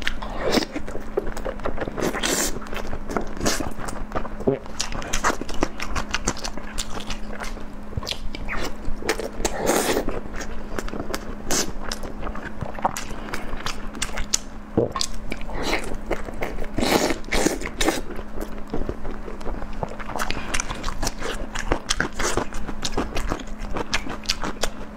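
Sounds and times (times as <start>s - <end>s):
chewing food with wet smacks: 0.0s - 24.9s
faint steady hum: 0.0s - 24.9s.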